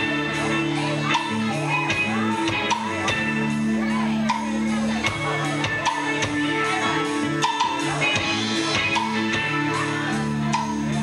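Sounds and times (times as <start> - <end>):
bass guitar: 0.0 - 11.0
electric guitars: 0.0 - 11.0.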